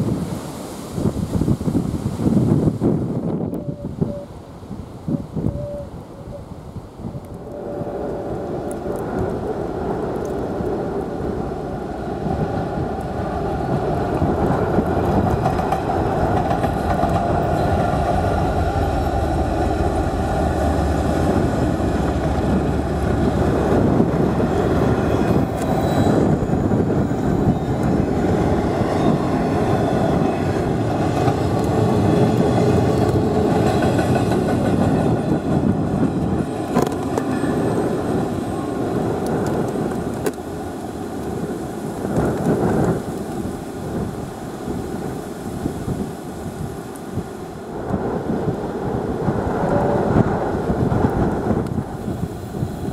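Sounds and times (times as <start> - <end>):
diesel locomotives passing: 6.4 - 52.9
train wheels rumbling on rails: 7.4 - 52.9.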